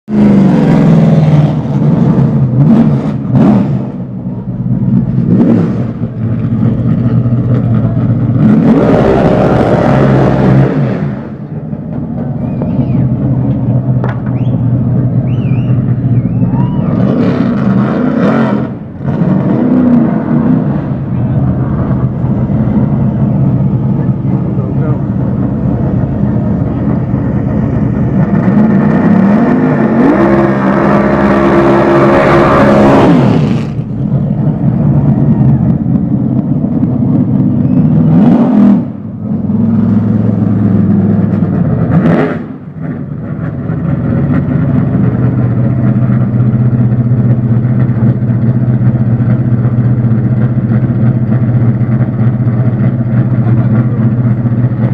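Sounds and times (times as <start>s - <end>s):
race car engine revving: 0.1s - 54.9s.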